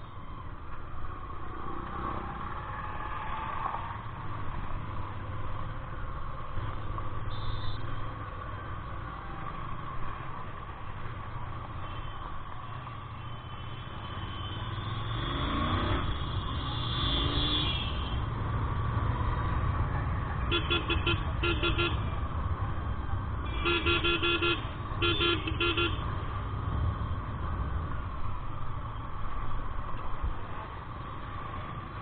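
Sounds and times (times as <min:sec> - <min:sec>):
road and traffic noise: 0:00.0 - 0:32.0.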